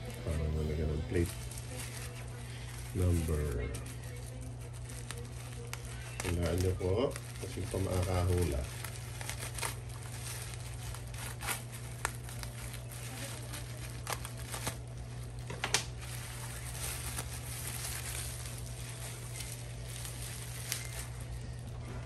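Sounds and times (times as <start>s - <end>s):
plastic mailer crinkling: 0.0s - 22.0s
sharp crackles: 0.0s - 22.0s
scissors cutting plastic: 0.1s - 21.6s.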